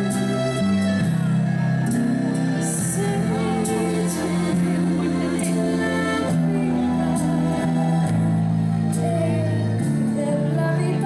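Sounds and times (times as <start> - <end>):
woman singing: 0.0 - 0.8, 2.6 - 11.0
instrumental accompaniment: 0.0 - 11.0.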